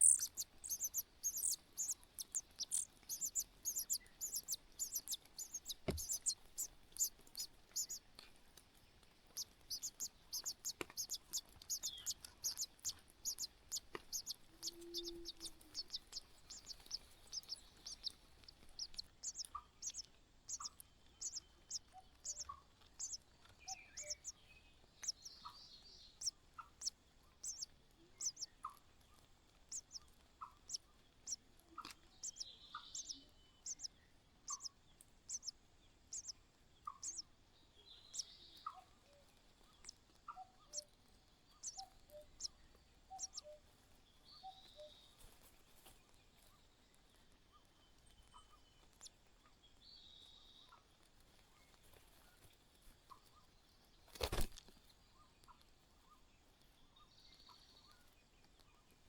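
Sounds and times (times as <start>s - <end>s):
small bird chirping: 0.0s - 59.0s.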